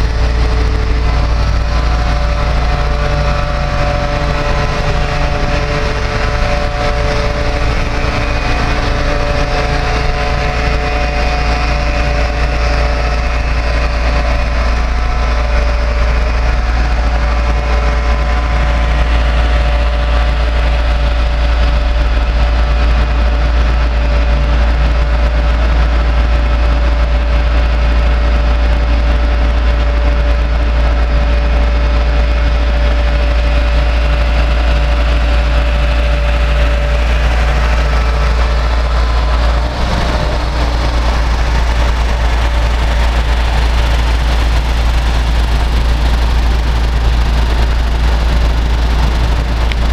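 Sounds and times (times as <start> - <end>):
heavy low rumble: 0.0 - 49.9
truck engine whining: 0.0 - 49.9.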